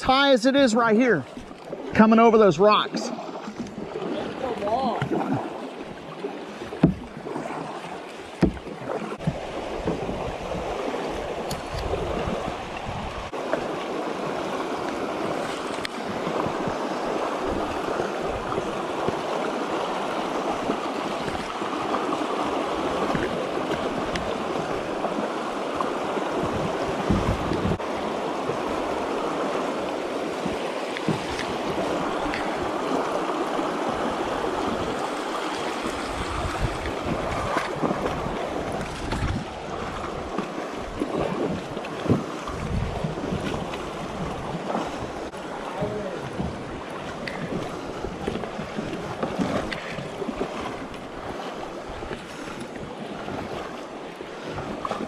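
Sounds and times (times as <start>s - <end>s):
river water rushing over rocks: 1.8s - 55.0s.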